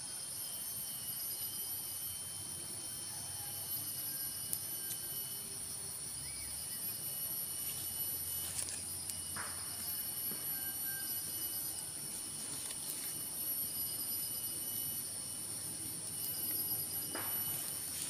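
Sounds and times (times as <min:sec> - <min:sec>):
insects droning: 0:00.0 - 0:18.0
pulsing insect drone: 0:00.0 - 0:18.0.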